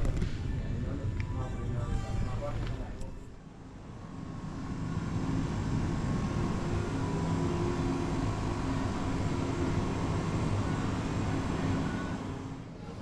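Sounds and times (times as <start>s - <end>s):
vehicle running noise: 0.0s - 13.0s.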